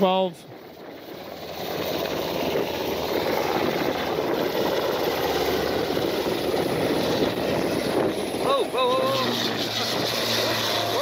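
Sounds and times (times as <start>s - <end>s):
aircraft drone over loudspeakers: 0.0s - 11.0s.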